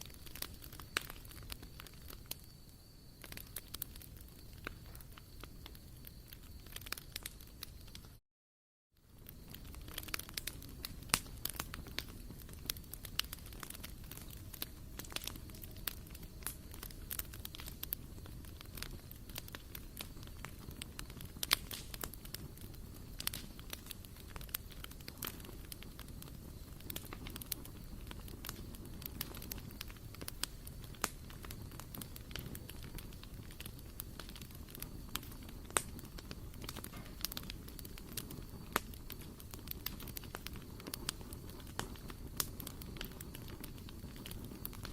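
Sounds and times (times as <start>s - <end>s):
low rustle of flame: 0.0s - 8.2s, 8.9s - 44.9s
wood fire crackling and popping: 0.0s - 8.2s, 9.0s - 44.9s.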